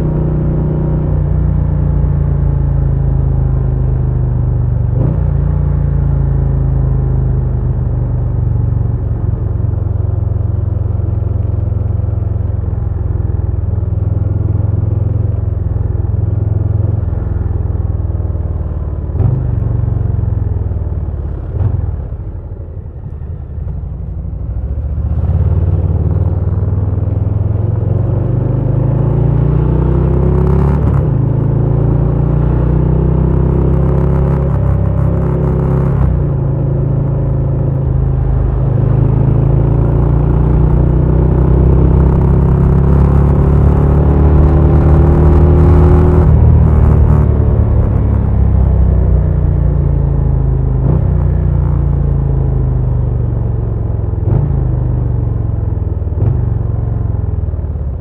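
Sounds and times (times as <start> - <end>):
motorcycle engine rumbling: 2.1 - 58.0.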